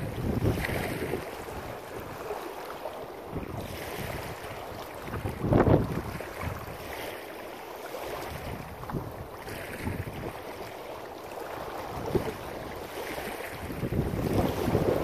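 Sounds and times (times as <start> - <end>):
wind buffeting microphone: 0.0 - 2.3, 3.3 - 6.9, 8.1 - 10.7, 11.4 - 15.0
small waves lapping on rocks: 0.0 - 15.0.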